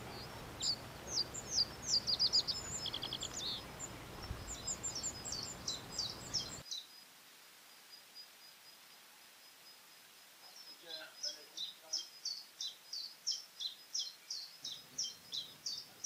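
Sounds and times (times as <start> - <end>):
songbirds chirping and trilling: 0.0 - 7.2, 7.9 - 16.0
outdoor background hiss: 0.0 - 16.0.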